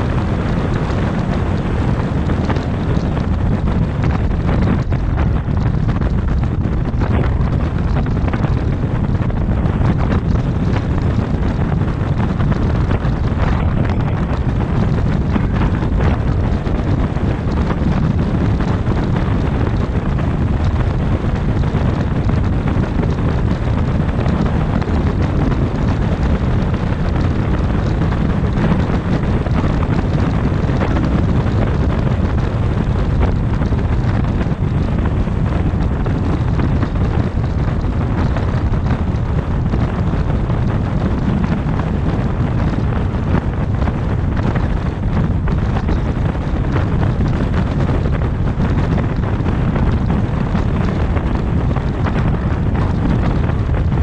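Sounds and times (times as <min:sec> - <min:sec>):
tyre and road rumble: 0:00.0 - 0:54.0
wind rushing over microphone: 0:00.0 - 0:54.0.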